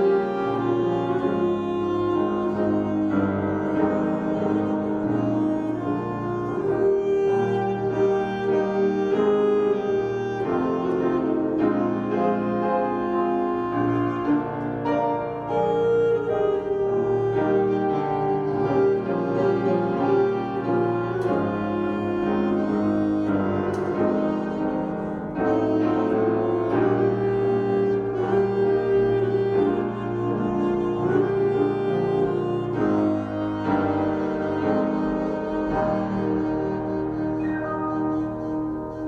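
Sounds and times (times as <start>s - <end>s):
bowed strings: 0.0s - 39.0s
piano: 0.0s - 39.0s.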